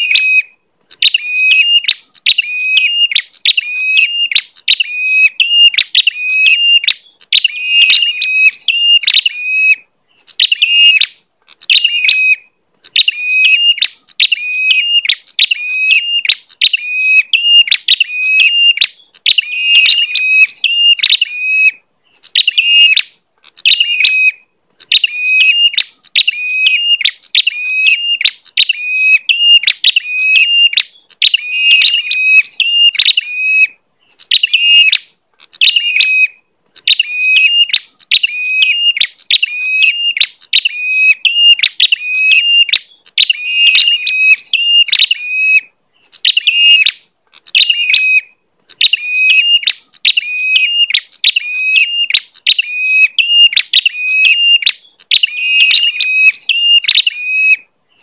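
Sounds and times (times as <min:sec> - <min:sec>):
bird shrill chirping: 0:00.0 - 0:58.0.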